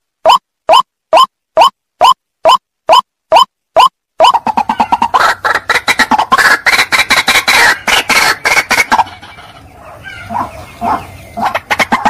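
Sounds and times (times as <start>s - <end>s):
waterhen calling: 0.3s - 12.0s.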